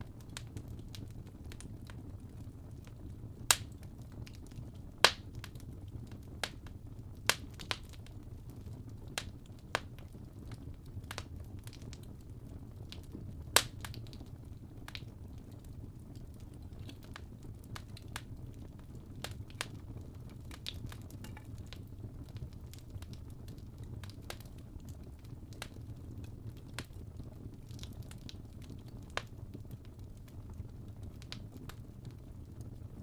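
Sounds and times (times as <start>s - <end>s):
coal fire crackling and popping: 0.0s - 33.0s.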